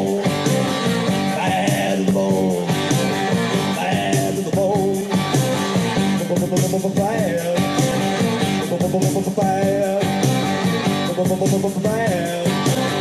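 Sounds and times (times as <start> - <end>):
loud rock song with singing: 0.0 - 13.0.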